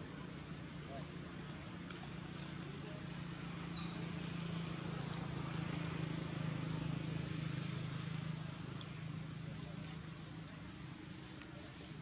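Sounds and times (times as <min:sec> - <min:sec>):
motor vehicle engine hum: 0:00.0 - 0:12.0.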